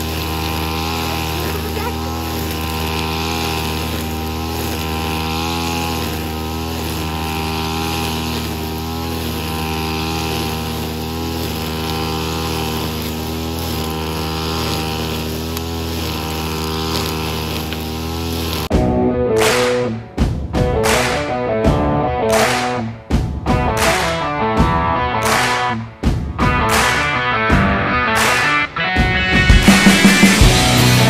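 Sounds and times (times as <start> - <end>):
brush cutter engine running: 0.0 - 18.8, 20.8 - 31.0.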